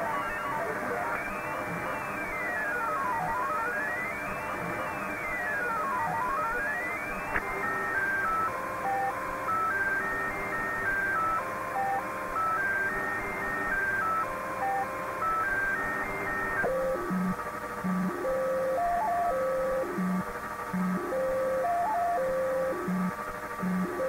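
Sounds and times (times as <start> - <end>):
radio static hiss: 0.0 - 21.6.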